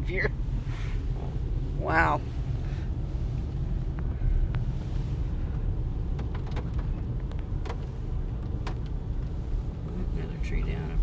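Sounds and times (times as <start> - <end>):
car rumbling from inside cabin: 0.0 - 11.0.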